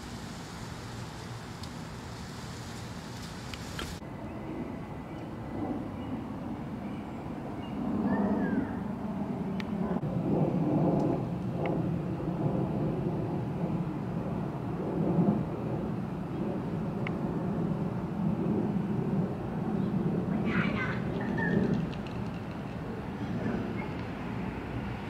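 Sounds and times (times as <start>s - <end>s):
street traffic rumble: 0.0s - 6.9s, 9.2s - 25.0s.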